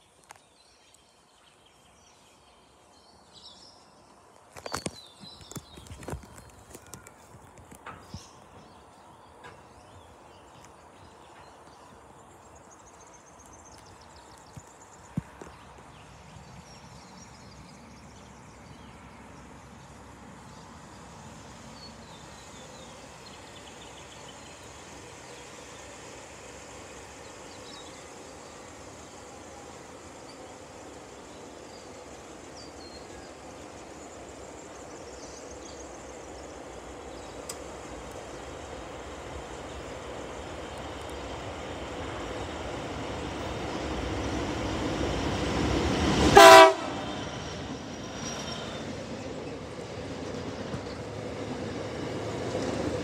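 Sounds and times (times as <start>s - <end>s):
distant freight train rumbling: 5.0s - 53.0s.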